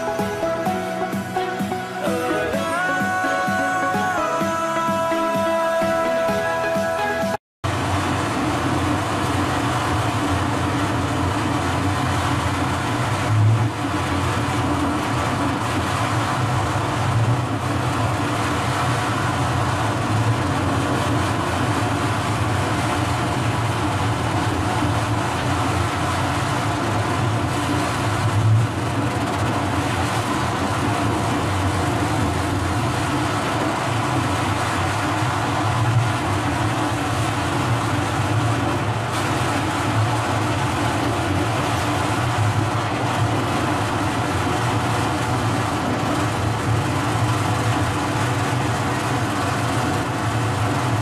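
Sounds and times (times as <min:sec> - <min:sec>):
excavator engine running: 0:00.0 - 0:51.0.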